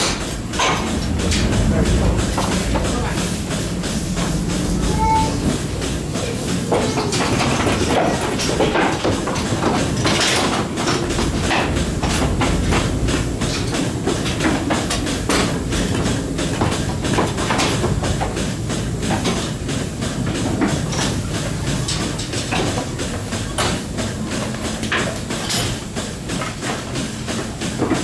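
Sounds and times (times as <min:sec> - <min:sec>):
milking machinery rumbling: 0:00.0 - 0:28.0
rapid clicks and metallic clanks: 0:00.0 - 0:28.0.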